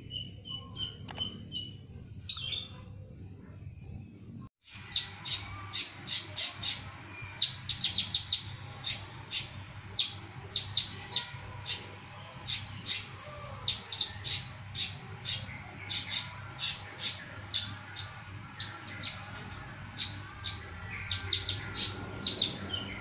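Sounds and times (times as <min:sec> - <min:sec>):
songbird chirping: 0:00.0 - 0:04.0, 0:04.6 - 0:23.0.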